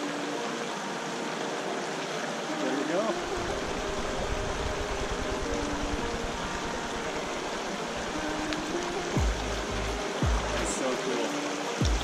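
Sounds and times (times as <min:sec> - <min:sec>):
creek running over stones: 0:00.0 - 0:12.0.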